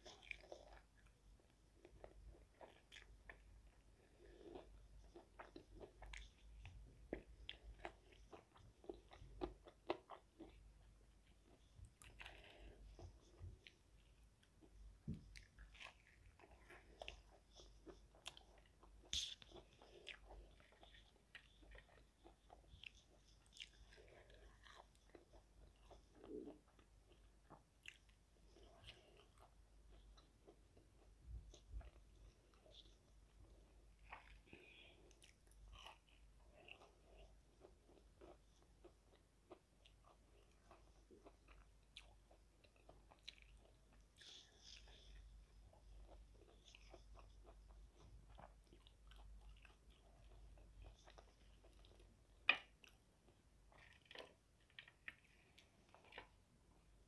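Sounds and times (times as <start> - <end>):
crunching and chewing food: 0.0 - 57.0.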